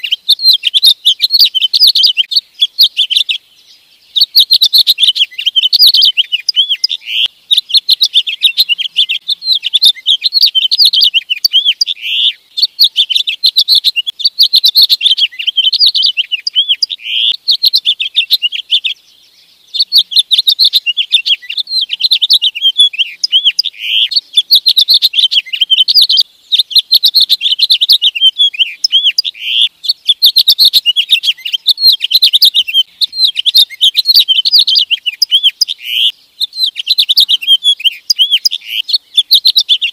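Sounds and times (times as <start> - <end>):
finch singing warble: 0.0 - 39.9.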